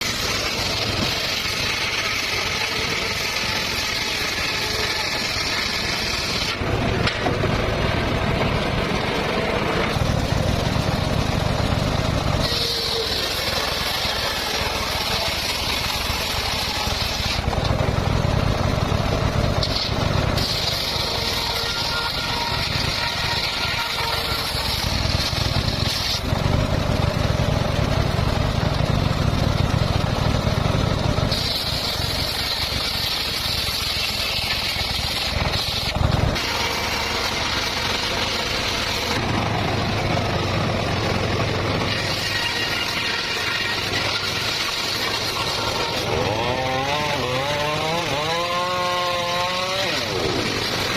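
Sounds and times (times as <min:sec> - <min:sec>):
circular saw cutting wood: 0:00.0 - 0:50.9
saw motor humming: 0:00.0 - 0:50.9.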